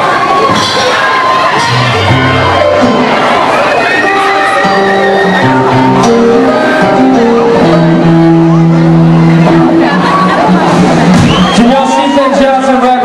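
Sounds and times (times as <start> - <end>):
live band music: 0.3 - 13.0
keyboard holding notes: 1.6 - 13.0.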